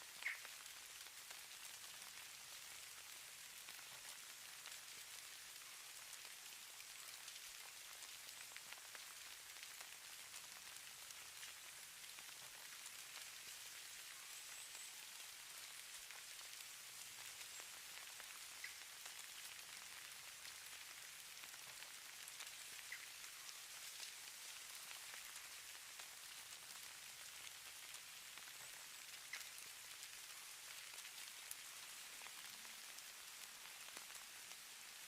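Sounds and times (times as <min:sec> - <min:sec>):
faint steady hiss: 0:00.0 - 0:35.0
soft pattering ticks: 0:00.1 - 0:35.0.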